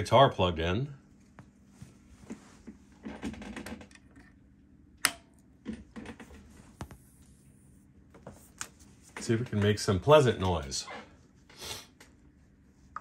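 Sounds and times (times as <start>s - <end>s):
amp hum: 0.0s - 13.0s.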